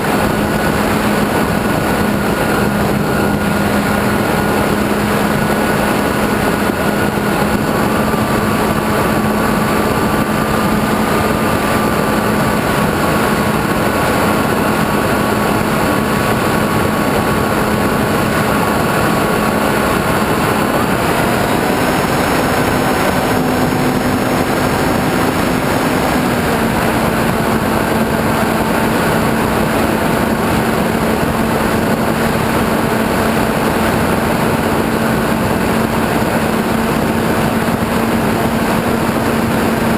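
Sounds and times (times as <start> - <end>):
dense rushing noise: 0.0 - 39.9
model plane motor and propeller: 0.0 - 39.9.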